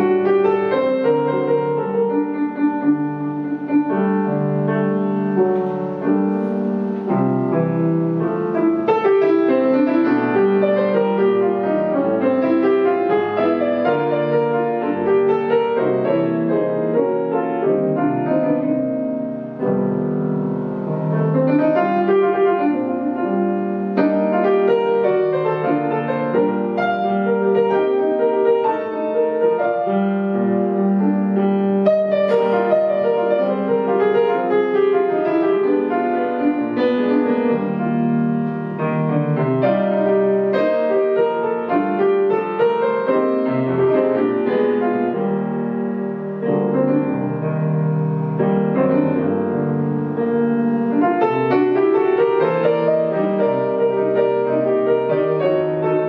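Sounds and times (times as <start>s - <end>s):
solo jazz piano: 0.0s - 56.0s.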